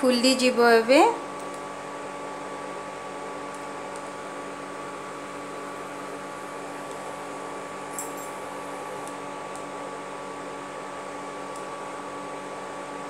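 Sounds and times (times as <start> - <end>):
cooling fan whirring: 0.0 - 13.0
electrical whine: 0.0 - 13.0.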